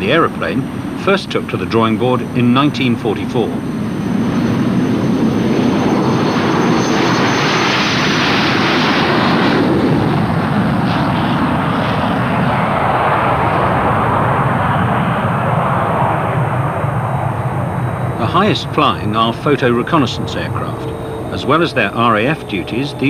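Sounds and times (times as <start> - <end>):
high turbine whine: 0.0 - 23.0
jet engines at take-off: 0.0 - 23.0.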